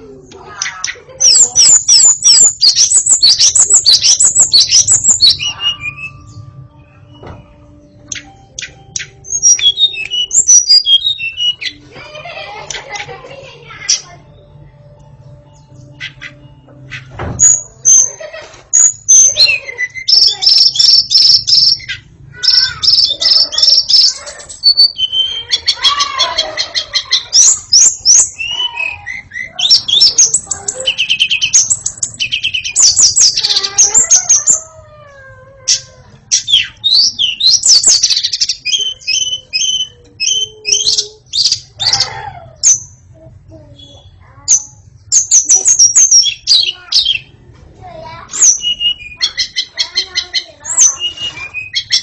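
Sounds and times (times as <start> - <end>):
songbird singing trills and whistles: 0.6 - 11.8, 18.7 - 34.7, 35.6 - 43.1, 43.7 - 47.4, 48.3 - 52.0.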